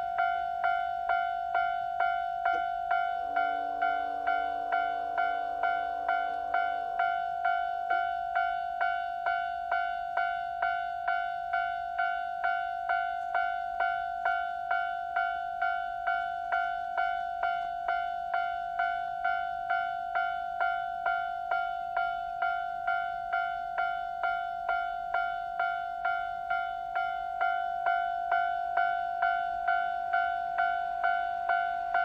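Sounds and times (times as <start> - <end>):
level crossing warning bell: 0.0 - 32.0.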